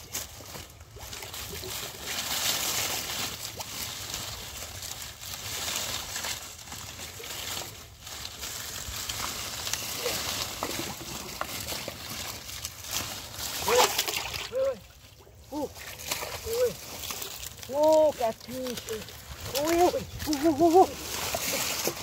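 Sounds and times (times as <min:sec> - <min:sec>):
dry leaves rustling and crackling: 0:00.0 - 0:22.0
water sloshing: 0:00.0 - 0:22.0.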